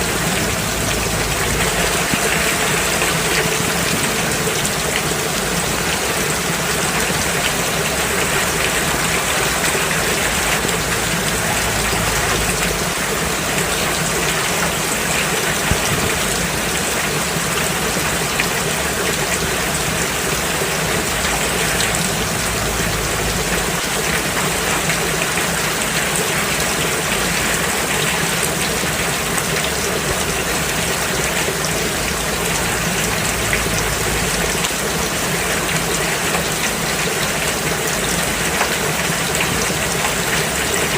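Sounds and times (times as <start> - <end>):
rain falling on a road: 0.0 - 40.9.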